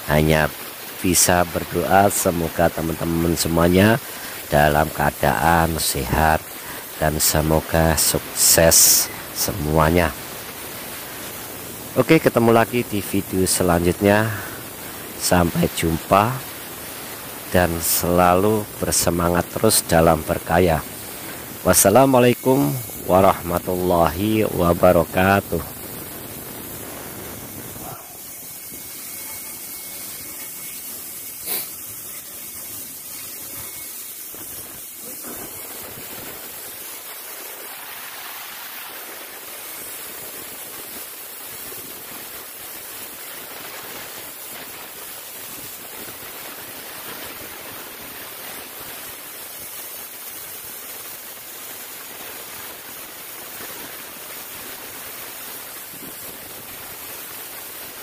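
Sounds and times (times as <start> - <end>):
compressed air hissing: 0.0 - 58.0.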